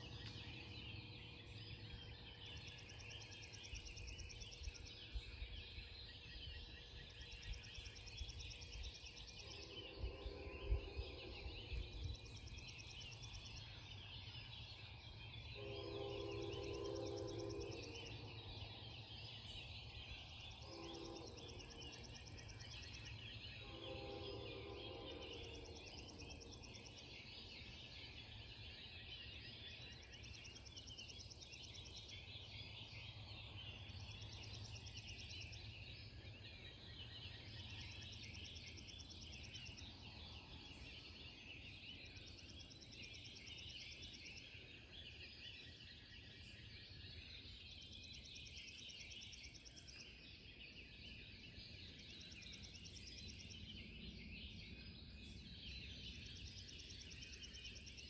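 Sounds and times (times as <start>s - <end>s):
dawn bird chorus: 0.0s - 58.0s.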